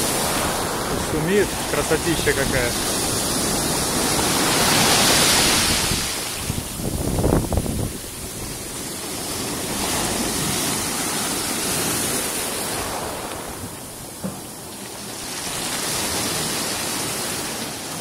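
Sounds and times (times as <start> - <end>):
waves breaking on shore: 0.0 - 18.0.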